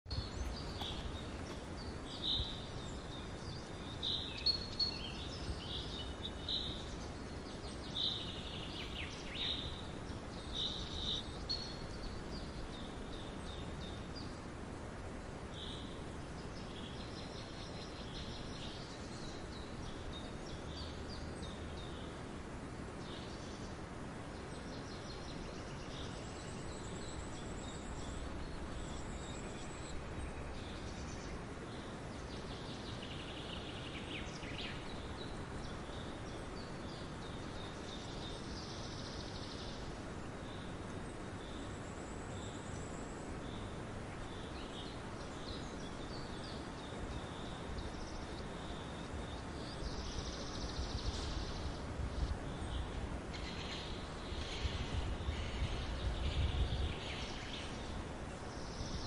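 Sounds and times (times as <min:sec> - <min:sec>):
small birds chirping: 0:00.0 - 0:59.0
steady background hiss: 0:00.1 - 0:59.0.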